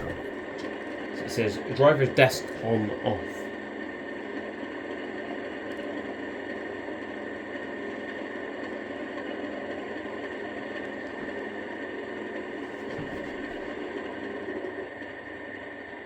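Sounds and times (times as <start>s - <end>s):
diesel engine idling through small speaker: 0.0s - 15.9s.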